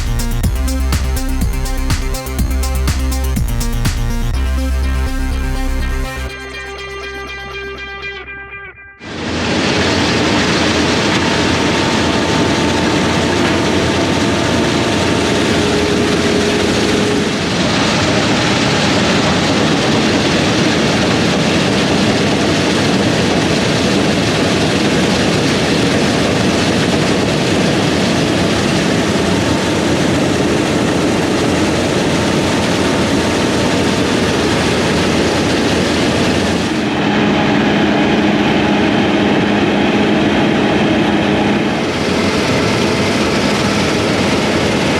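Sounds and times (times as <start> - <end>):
heavy farm machinery running: 0.0 - 6.3, 9.1 - 44.9.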